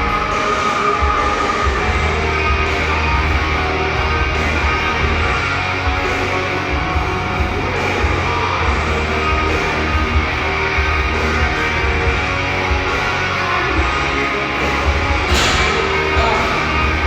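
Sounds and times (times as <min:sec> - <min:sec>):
loud rock music with guitar: 0:00.0 - 0:17.0.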